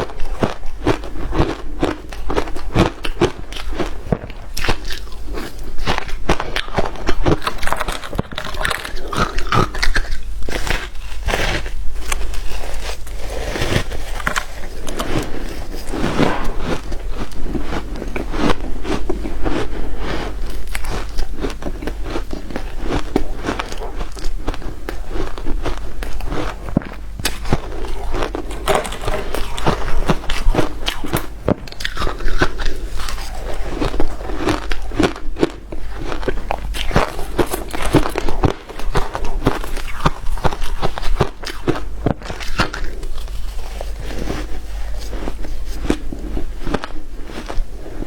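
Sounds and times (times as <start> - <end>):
chewing crunchy shaved ice: 0.0 - 48.0.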